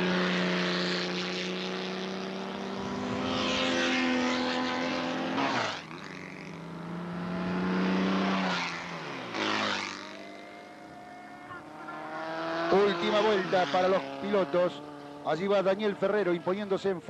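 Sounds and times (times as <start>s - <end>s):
race car engines running hard: 0.0s - 17.0s
race car passing close: 0.0s - 17.0s.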